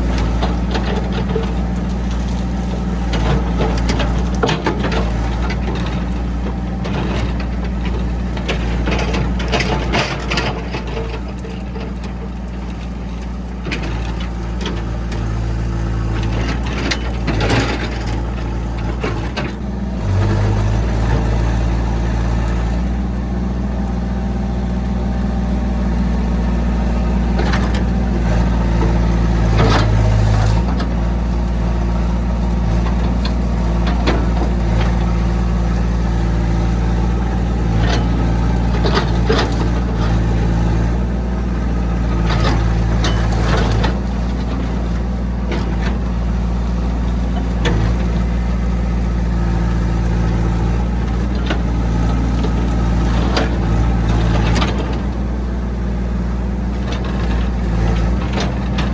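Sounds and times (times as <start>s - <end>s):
bucket clanking and scraping: 0.0s - 55.7s, 56.5s - 58.9s
excavator diesel engine: 0.0s - 58.9s
hydraulics under load: 0.0s - 58.9s.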